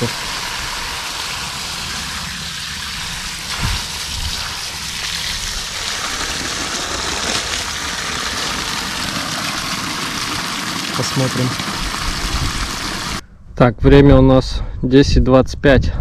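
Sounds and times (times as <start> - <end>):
water pouring from pipe: 0.0 - 13.2.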